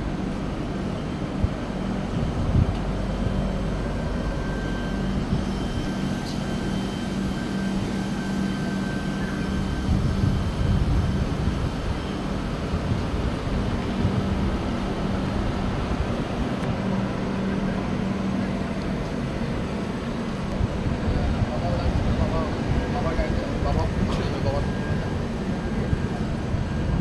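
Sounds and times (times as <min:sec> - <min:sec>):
train coach hum and rumble: 0:00.0 - 0:27.0.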